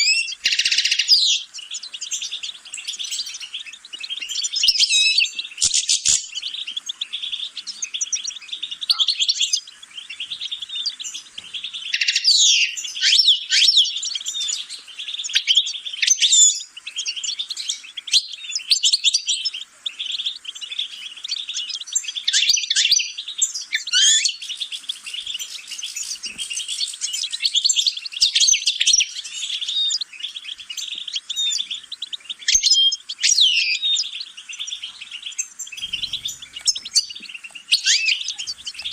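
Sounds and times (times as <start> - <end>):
songbird singing twittering song: 0.0 - 38.9.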